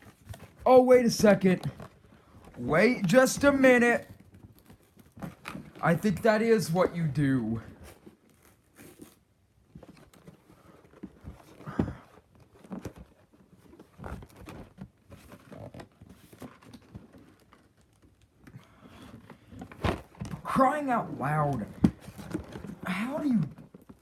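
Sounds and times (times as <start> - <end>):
cardboard scraping and crinkling: 0.0 - 24.0.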